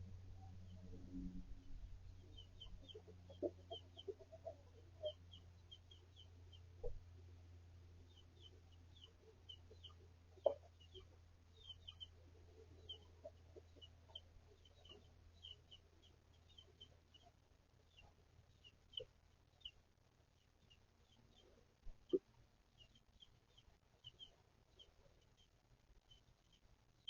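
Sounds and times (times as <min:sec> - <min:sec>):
steady low hum: 0:00.0 - 0:27.0
chicks peeping: 0:02.1 - 0:07.0, 0:08.0 - 0:19.8, 0:20.4 - 0:25.5
hens clucking softly: 0:02.1 - 0:07.4, 0:08.0 - 0:19.8, 0:20.6 - 0:26.6.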